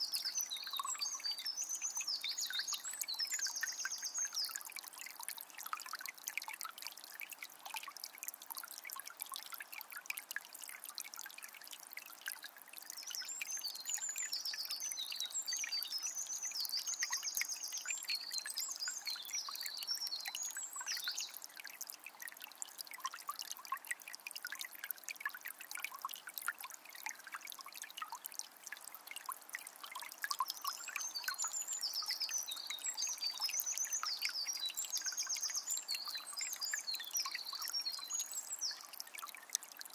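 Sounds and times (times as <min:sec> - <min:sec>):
river trickling and babbling: 0:00.0 - 0:39.9.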